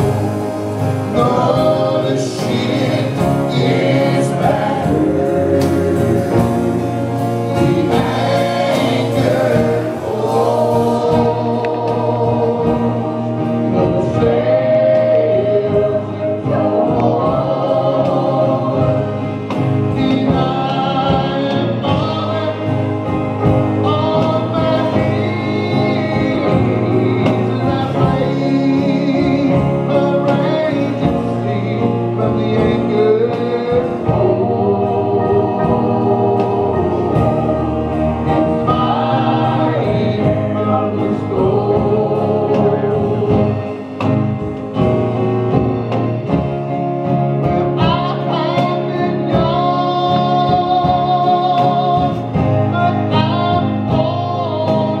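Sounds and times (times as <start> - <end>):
acoustic guitar: 0.0 - 55.0
group singing gospel: 0.0 - 55.0.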